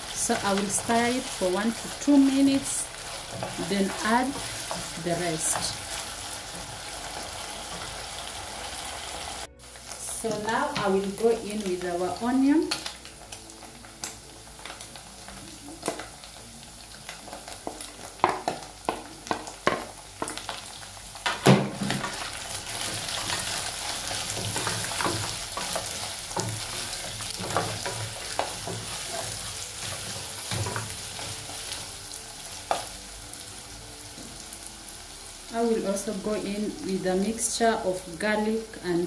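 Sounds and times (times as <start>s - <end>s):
onion and beef sizzling: 0.0s - 39.0s.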